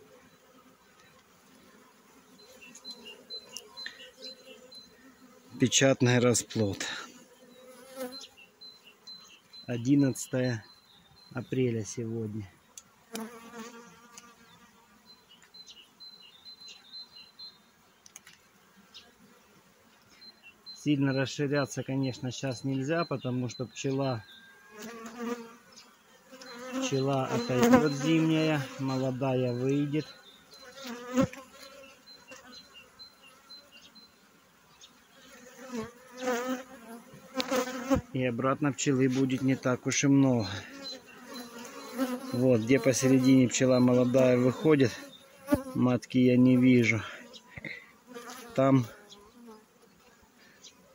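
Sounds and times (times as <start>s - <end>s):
honeybees humming: 0.0s - 50.9s.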